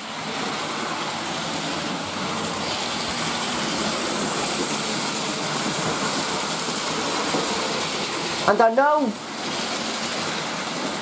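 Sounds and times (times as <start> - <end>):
model trains whirring on track: 0.0 - 11.0.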